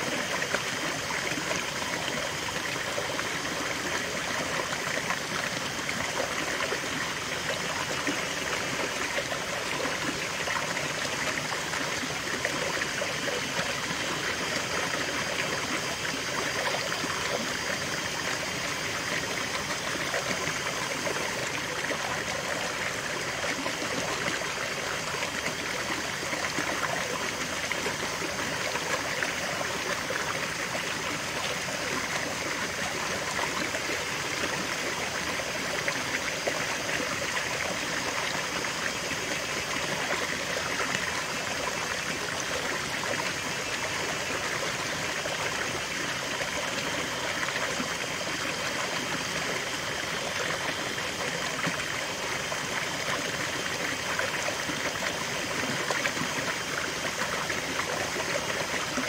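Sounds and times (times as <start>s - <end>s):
stream water over rocks: 0.0s - 59.0s.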